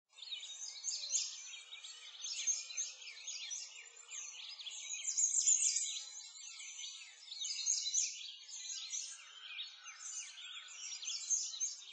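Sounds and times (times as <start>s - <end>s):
small birds chirping: 0.1s - 11.9s.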